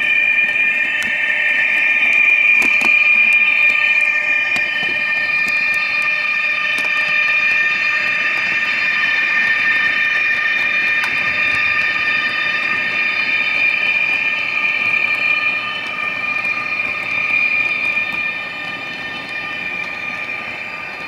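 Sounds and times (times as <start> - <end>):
electric traction whine: 0.0 - 21.0
wheels clicking over track joints: 0.0 - 21.0.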